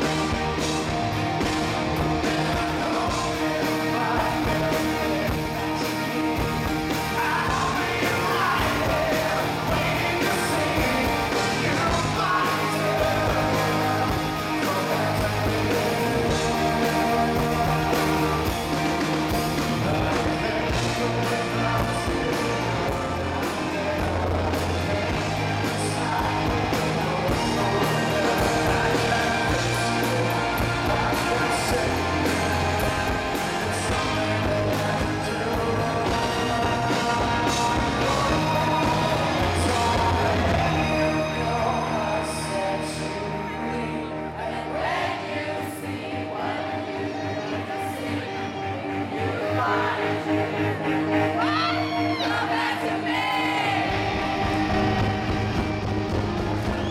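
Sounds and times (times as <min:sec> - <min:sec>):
electric guitars: 0:00.0 - 0:56.9
live rock band playing: 0:00.0 - 0:56.9
man singing lead: 0:00.0 - 0:56.9.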